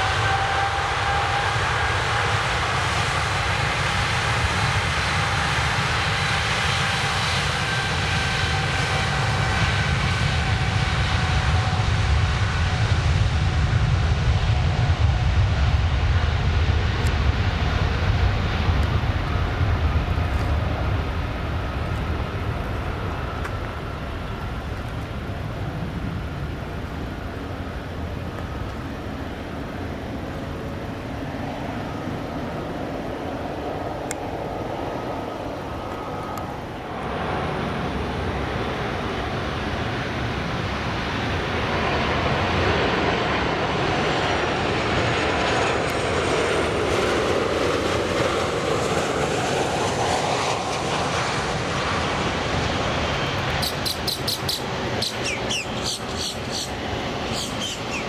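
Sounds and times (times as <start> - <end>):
jet airliner passing: 0.0 - 58.0.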